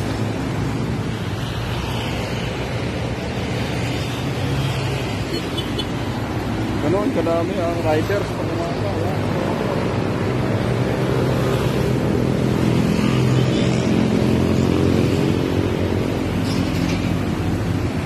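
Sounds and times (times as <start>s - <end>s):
motorcycle engines passing: 0.0s - 18.0s.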